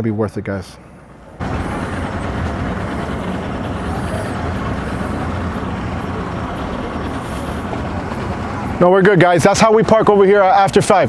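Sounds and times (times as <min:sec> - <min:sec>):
outboard engine idling: 0:00.8 - 0:11.0.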